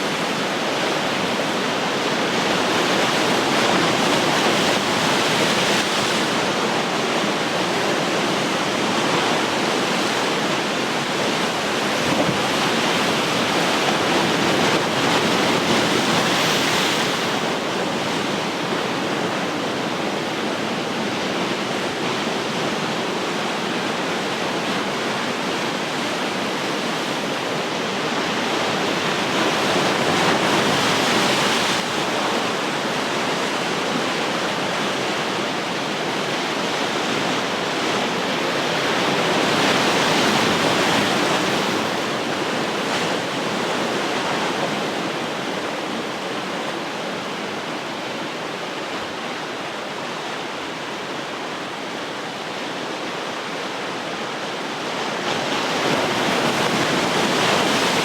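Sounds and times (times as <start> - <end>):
ocean surf washing: 0.0 - 58.0.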